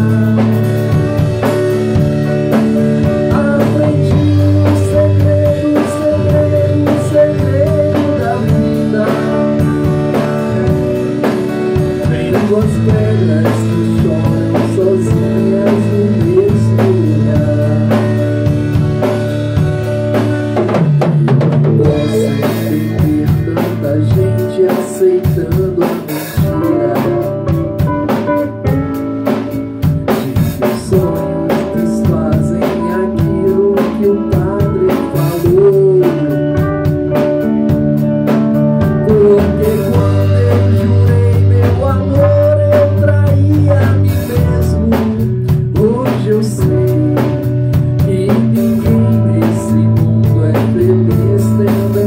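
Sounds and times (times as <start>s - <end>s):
drum kit: 0.0s - 52.0s
guitar: 0.0s - 52.0s
person singing: 0.0s - 52.0s.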